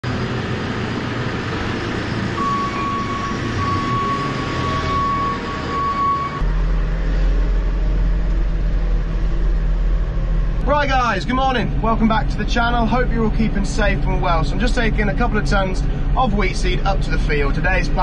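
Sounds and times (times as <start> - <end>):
diesel engine running: 0.0 - 18.0
low engine drone in cab: 0.0 - 18.0.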